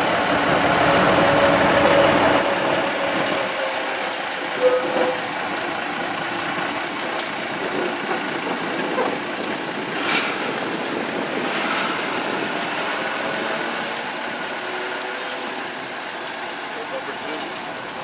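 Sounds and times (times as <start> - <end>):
diesel locomotive engine droning: 0.0 - 18.0.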